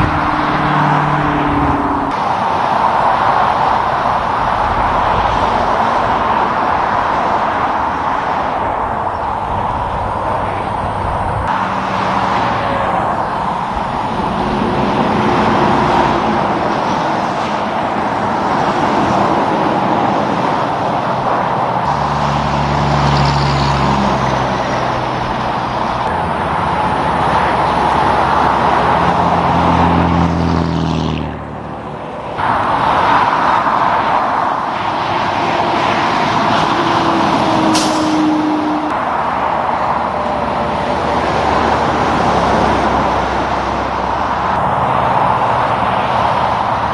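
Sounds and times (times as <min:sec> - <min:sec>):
heavy trucks passing: 0:00.0 - 0:46.9
tyre and road noise: 0:00.0 - 0:46.9.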